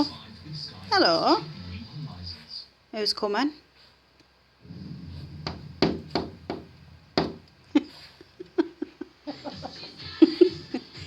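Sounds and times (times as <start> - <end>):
low steady hum: 0.0 - 10.7.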